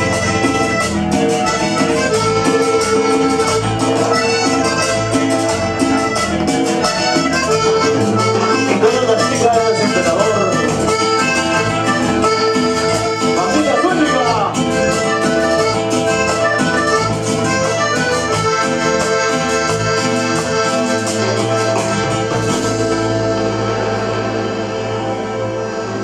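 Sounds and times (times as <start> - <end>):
bass guitar: 0.0 - 26.0
button accordion melody: 0.0 - 26.0
congas: 0.0 - 26.0.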